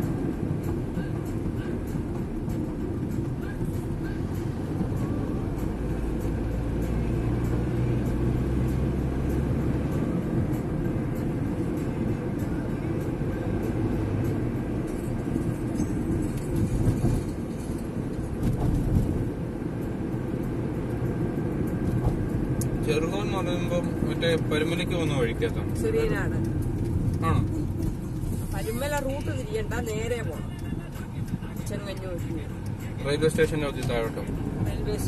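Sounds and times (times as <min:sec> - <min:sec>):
car cabin road and engine rumble: 0:00.0 - 0:35.0.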